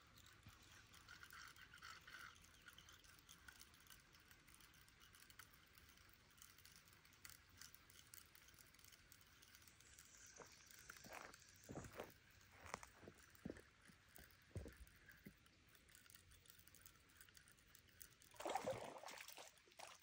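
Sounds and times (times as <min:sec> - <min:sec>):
fishing reel ticking: 0:00.0 - 0:18.4.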